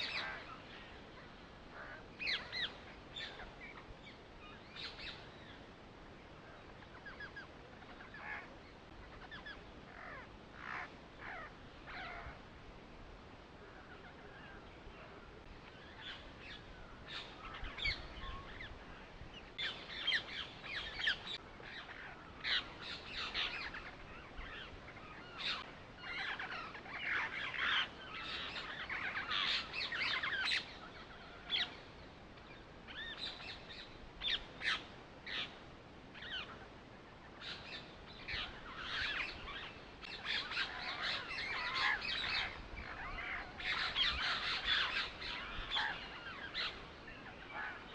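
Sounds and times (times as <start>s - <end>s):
small birds chirping: 0.0s - 12.4s, 13.3s - 47.9s.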